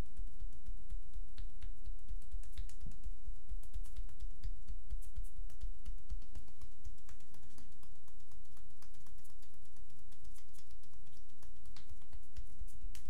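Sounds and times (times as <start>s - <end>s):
hands slapping bare skin: 0.0s - 13.0s.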